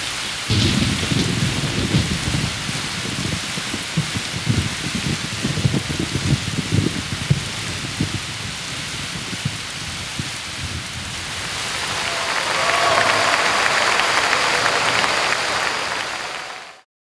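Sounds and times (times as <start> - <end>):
rain hiss: 0.0 - 16.8
thunder rumbles: 0.5 - 15.4.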